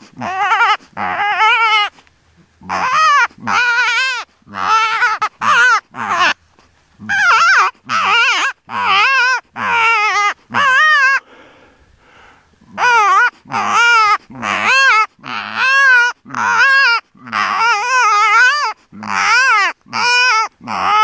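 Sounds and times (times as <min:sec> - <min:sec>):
predator call wailing: 0:00.0 - 0:01.9, 0:02.6 - 0:06.4, 0:07.0 - 0:11.3, 0:12.7 - 0:21.0.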